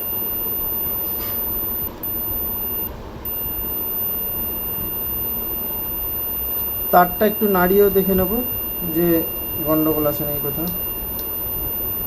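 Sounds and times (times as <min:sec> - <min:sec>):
multimeter continuity beep: 0:00.0 - 0:12.0.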